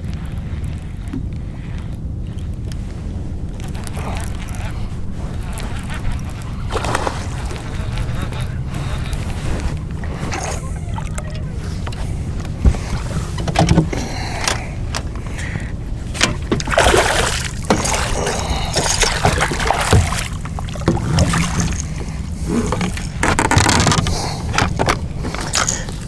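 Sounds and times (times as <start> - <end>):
wind and water rumble: 0.0 - 26.0
water splashing: 3.6 - 14.4, 15.5 - 26.0.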